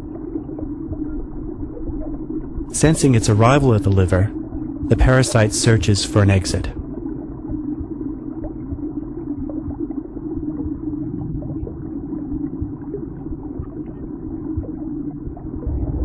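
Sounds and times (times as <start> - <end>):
muffled low rumble with hum: 0.0 - 16.0.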